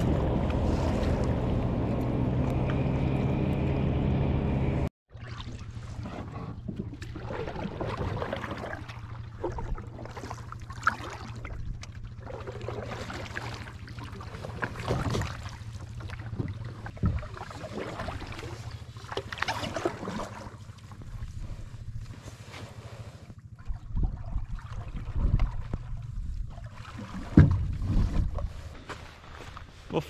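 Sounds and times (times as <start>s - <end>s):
paddles splashing in water: 0.0s - 3.2s, 5.1s - 30.0s
low steady hum: 0.0s - 30.0s.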